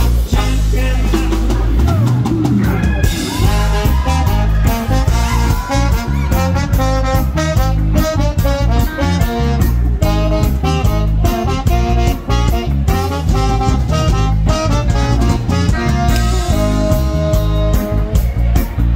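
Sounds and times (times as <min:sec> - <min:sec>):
live band music: 0:00.0 - 0:18.9
trombone and saxophone horn line: 0:00.0 - 0:18.9.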